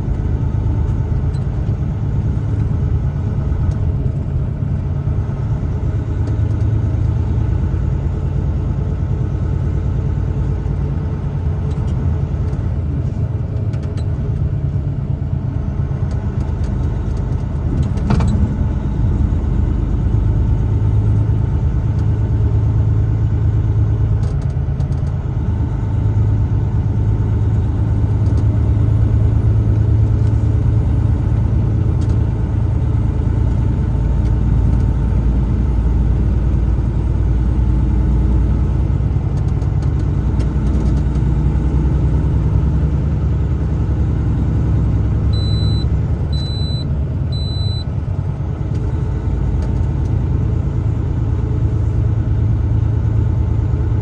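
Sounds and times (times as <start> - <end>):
truck engine and tyre rumble: 0.0 - 54.0.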